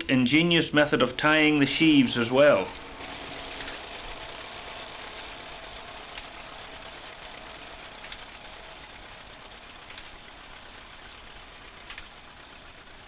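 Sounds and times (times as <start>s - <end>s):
tractor engine running: 1.1s - 13.0s.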